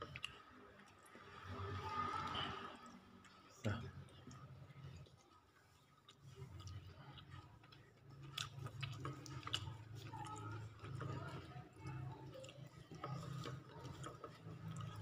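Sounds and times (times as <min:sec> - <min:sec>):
chewing clicks and smacks: 0:00.0 - 0:01.4, 0:02.3 - 0:15.0.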